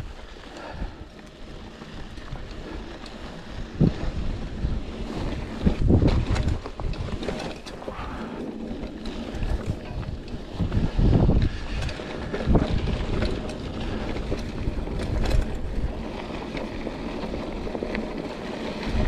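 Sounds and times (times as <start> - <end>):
bike jolting over bumps: 0.0 - 19.0
bike tyres rolling on rocky trail: 0.0 - 19.0
wind buffeting the microphone: 0.0 - 19.0.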